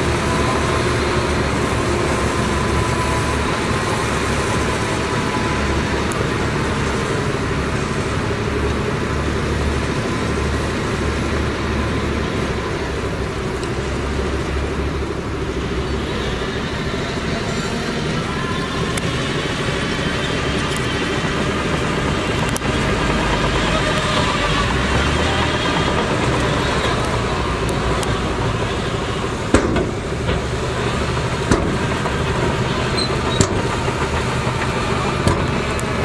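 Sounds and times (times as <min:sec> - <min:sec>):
diesel machinery engine drone: 0:00.0 - 0:36.0.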